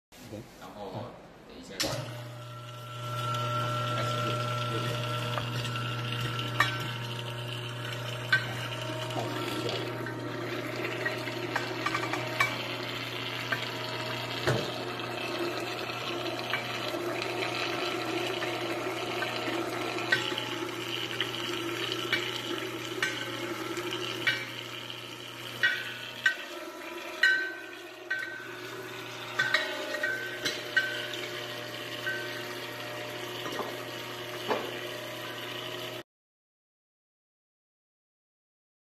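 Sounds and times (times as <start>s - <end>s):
grinding machine humming: 1.8s - 36.0s.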